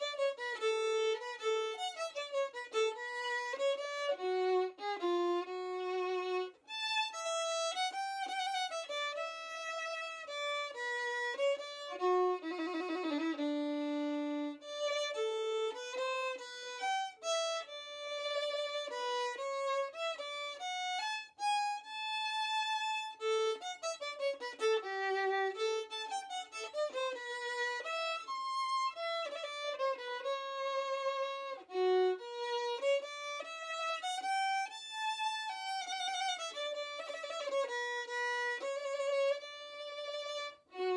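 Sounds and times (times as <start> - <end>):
solo violin melody: 0.0 - 40.9.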